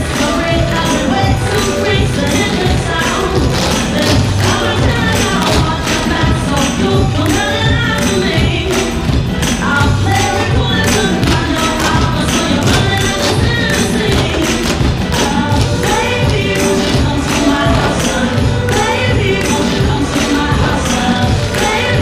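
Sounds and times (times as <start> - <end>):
pop song with singing: 0.0 - 22.0
tap shoes clattering on stage: 0.0 - 22.0.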